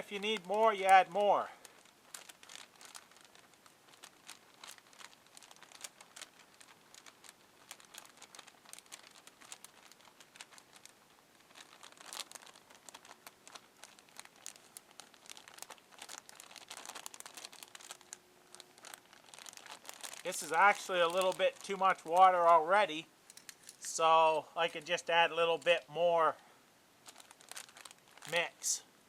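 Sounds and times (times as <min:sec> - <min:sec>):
plastic bag crinkling: 0:00.0 - 0:26.4, 0:27.0 - 0:28.8.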